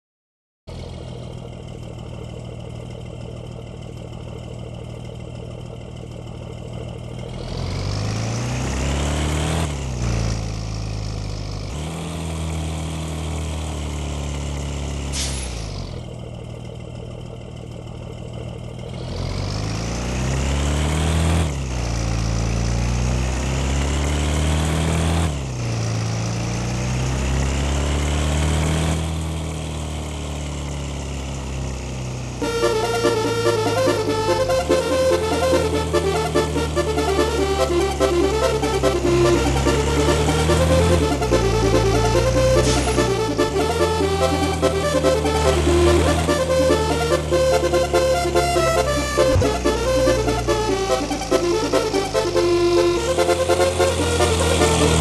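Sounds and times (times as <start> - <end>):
bus engine accelerating: 0.7 - 55.0.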